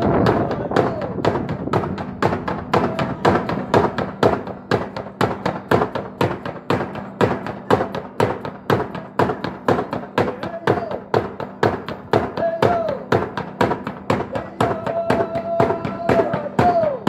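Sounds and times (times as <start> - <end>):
drum beaten in steady rhythm: 0.0 - 17.0.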